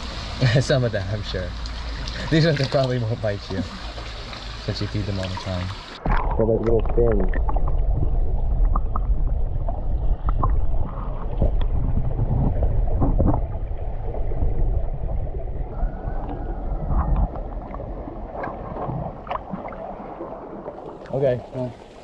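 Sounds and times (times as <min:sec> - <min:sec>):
underwater water rumble: 0:00.0 - 0:22.0.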